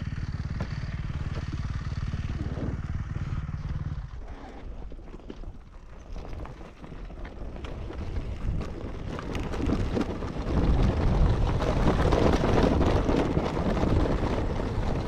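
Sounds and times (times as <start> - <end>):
motorcycle engine: 0.0 - 15.0
wind buffeting microphone: 0.0 - 15.0.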